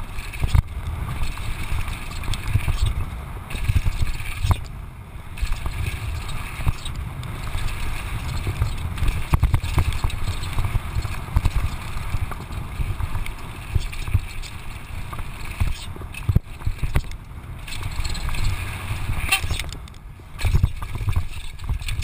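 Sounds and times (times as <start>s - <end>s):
bike rattling: 0.0s - 22.0s
wind buffeting microphone: 0.0s - 22.0s.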